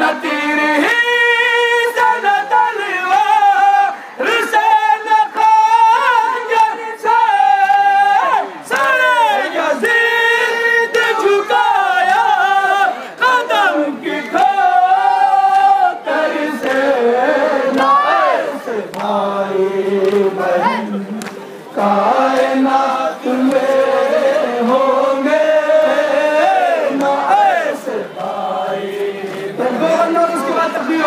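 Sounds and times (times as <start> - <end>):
man singing into microphone: 0.0 - 31.0
men singing in chorus: 0.0 - 31.0.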